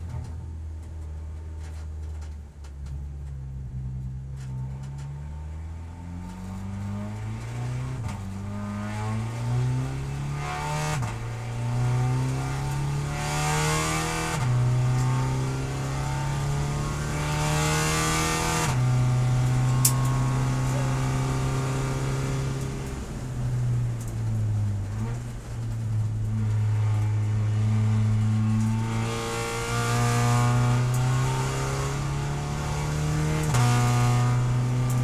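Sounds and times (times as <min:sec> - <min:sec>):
race car engine accelerating: 0:04.4 - 0:35.0.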